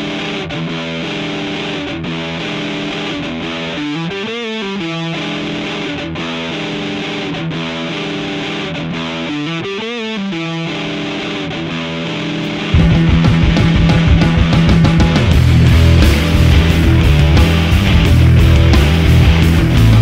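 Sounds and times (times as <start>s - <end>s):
rock music with electric guitar: 0.0s - 20.0s.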